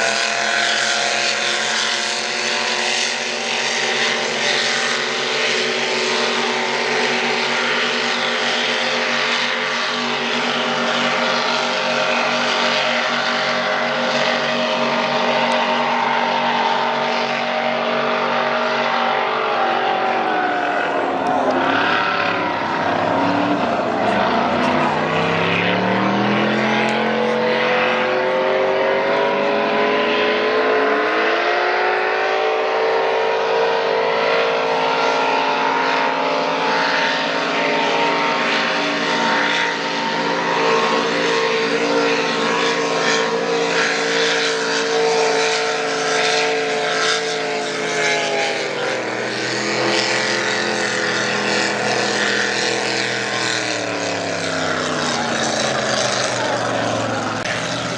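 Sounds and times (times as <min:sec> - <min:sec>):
powerboat engines at high revs: 0:00.0 - 0:57.9.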